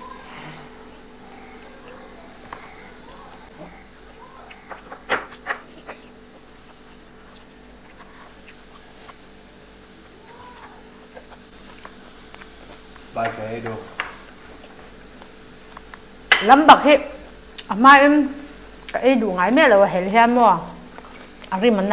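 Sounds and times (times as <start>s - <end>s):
high insect drone: 0.0s - 21.9s.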